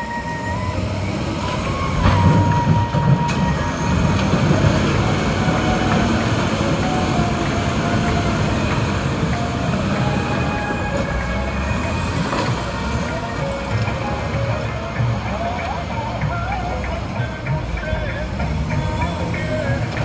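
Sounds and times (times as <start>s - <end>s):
metallic squeals: 0.0s - 17.6s.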